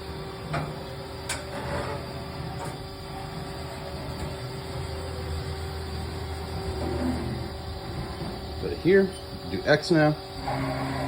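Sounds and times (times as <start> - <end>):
lathe drive hum: 0.0 - 11.0.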